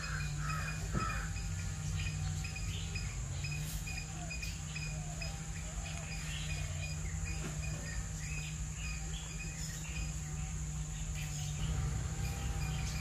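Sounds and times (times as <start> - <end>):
insects droning: 0.0 - 13.0
low steady hum: 0.0 - 13.0.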